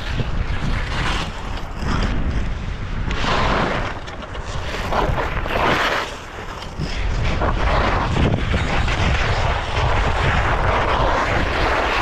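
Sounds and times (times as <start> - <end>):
skis scraping over icy snow: 0.0 - 12.0
wind buffeting microphone: 0.0 - 12.0.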